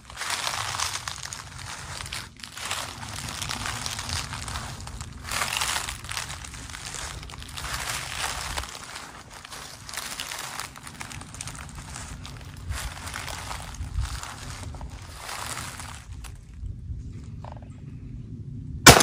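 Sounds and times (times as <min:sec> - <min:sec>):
footsteps crunching dry leaves: 0:00.0 - 0:16.6.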